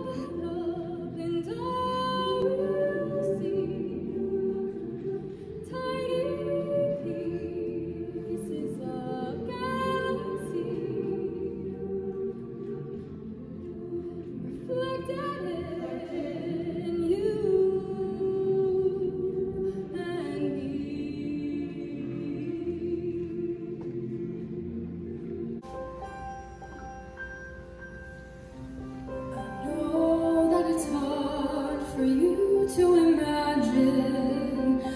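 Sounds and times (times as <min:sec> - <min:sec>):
female soloist singing: 0:00.0 - 0:24.2, 0:29.3 - 0:34.9
choir singing held chords: 0:00.0 - 0:34.9.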